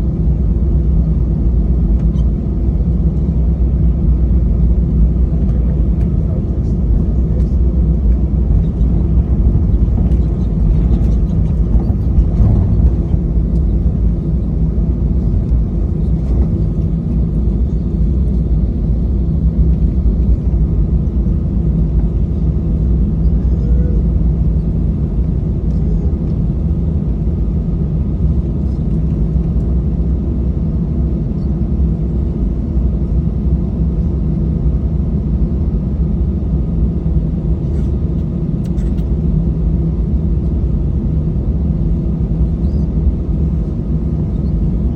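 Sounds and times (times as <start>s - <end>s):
airplane cabin rumble: 0.0s - 44.9s
jet engine hum: 0.0s - 44.9s.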